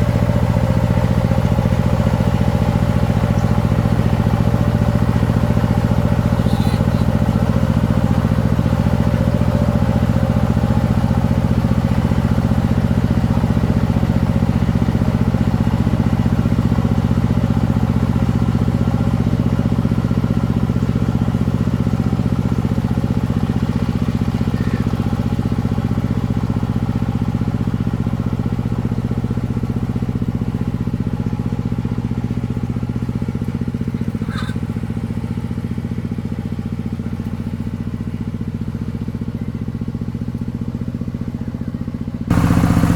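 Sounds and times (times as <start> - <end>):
farm vehicle engine running: 0.0 - 42.9.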